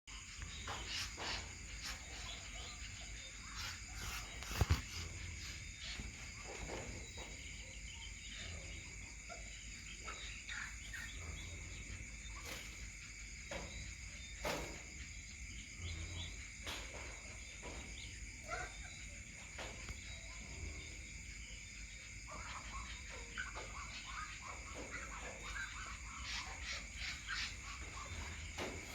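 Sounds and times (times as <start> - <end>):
insects chirping: 0.1 - 28.9.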